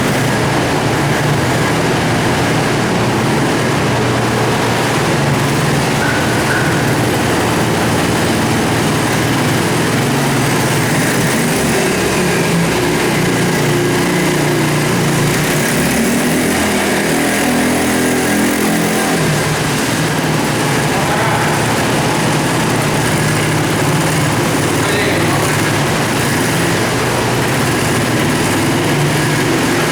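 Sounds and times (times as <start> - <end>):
atv engine running: 0.0 - 29.9.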